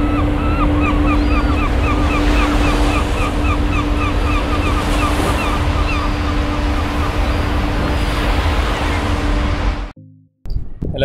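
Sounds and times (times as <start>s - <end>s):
rushing water of ship's wake: 0.0s - 9.9s.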